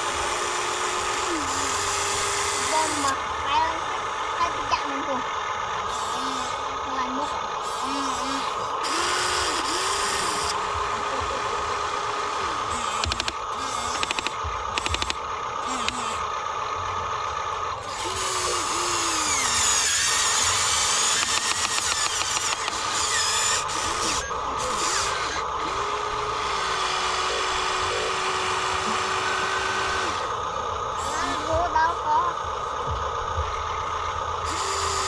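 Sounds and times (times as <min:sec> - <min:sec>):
high-pitched whirring: 0:00.0 - 0:35.0
toy electric motors whining: 0:00.0 - 0:35.0.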